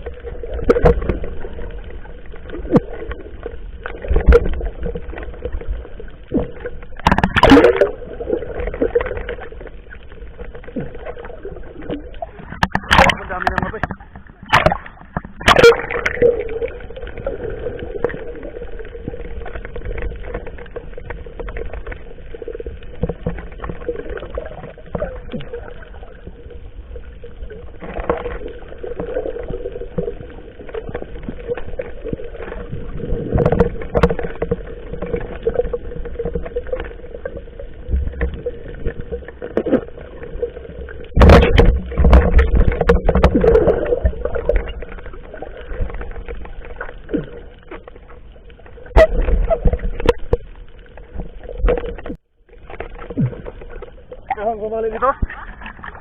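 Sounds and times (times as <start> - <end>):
water splashes: 0.0 - 56.0.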